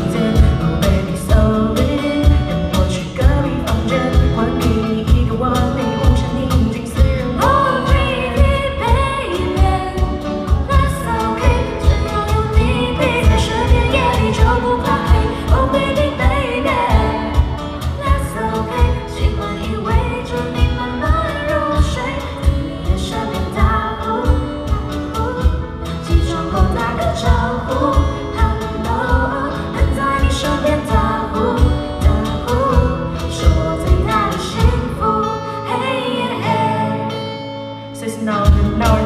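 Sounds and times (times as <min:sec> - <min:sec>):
steady drum beat: 0:00.0 - 0:34.9
guitar: 0:00.0 - 0:39.0
person singing: 0:00.0 - 0:39.0.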